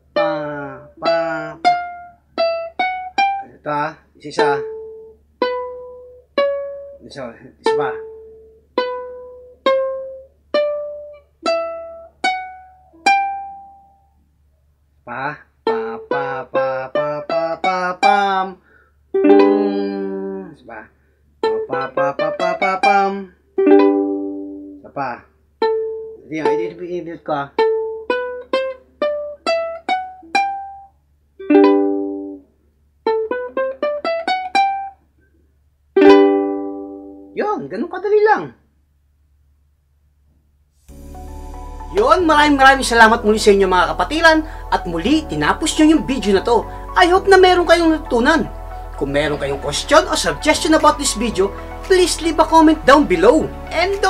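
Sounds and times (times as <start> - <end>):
ukulele chords strummed: 0.0 - 3.6, 4.3 - 14.0, 15.6 - 18.5, 19.1 - 20.5, 21.4 - 24.8, 25.6 - 35.0, 35.9 - 37.4, 40.9 - 54.0.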